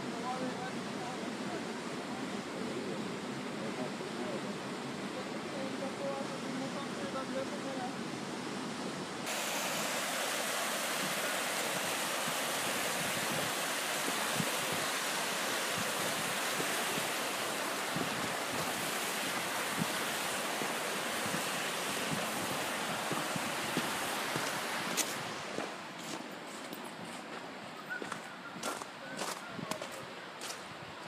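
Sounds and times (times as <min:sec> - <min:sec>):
waterfall and creek rushing: 0:00.0 - 0:30.6.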